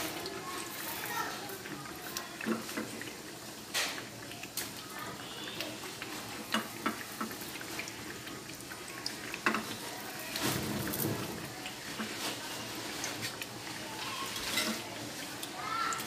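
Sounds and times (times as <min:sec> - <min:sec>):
food deep-frying in hot oil: 0:00.0 - 0:16.0.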